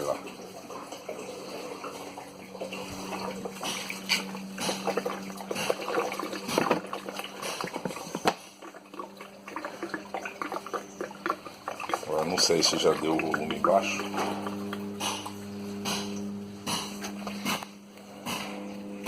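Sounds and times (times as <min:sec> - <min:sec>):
fluid trickling and splashing: 0:00.0 - 0:16.3
pump humming: 0:00.0 - 0:19.0.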